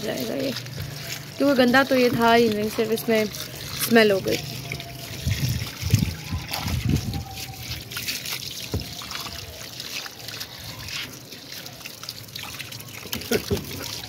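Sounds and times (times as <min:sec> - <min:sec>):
hose water running into tub: 0:00.0 - 0:14.0
small water splashes: 0:00.0 - 0:14.0.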